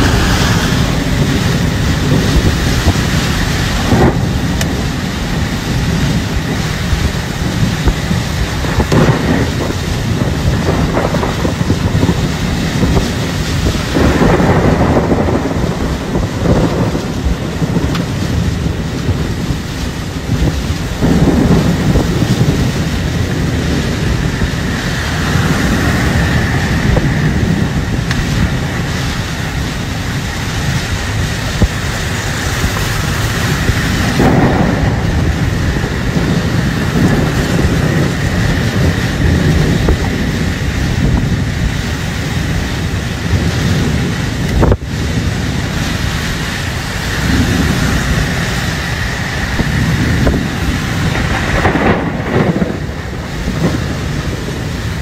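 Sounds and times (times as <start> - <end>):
heavy rain: 0.0 - 55.0
storm wind gusting: 0.0 - 55.0
wind buffeting microphone: 0.0 - 55.0.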